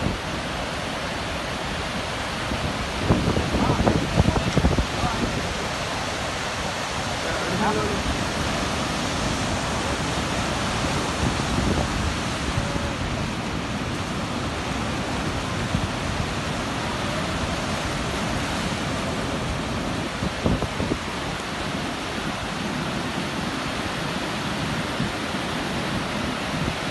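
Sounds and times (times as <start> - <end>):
sea surf breaking on beach: 0.0 - 26.9.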